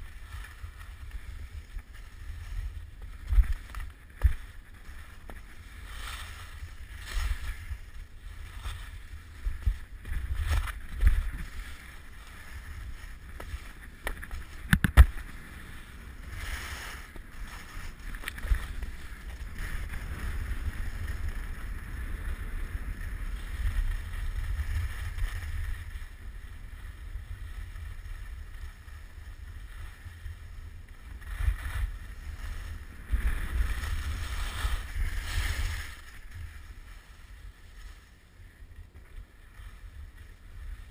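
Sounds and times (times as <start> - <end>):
skis scraping over snow: 0.0 - 40.9.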